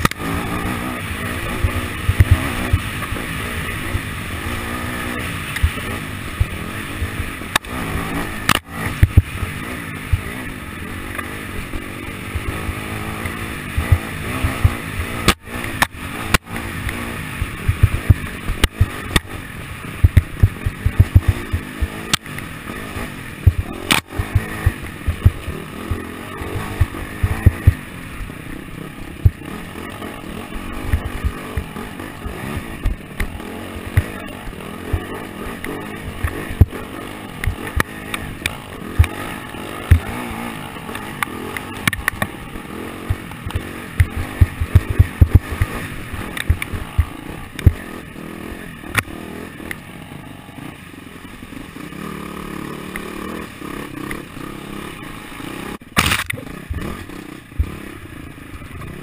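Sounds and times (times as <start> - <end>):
motorcycle engine under load: 0.0 - 59.0.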